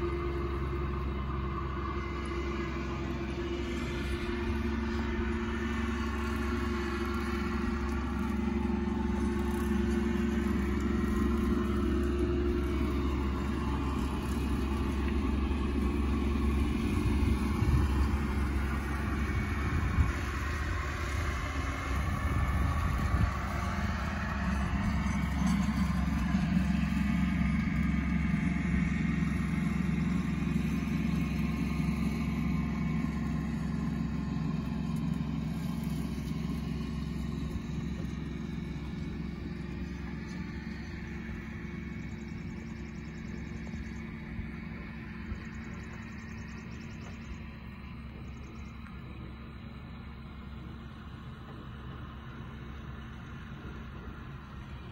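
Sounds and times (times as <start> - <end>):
tractor engine droning under load: 0.0 - 54.9.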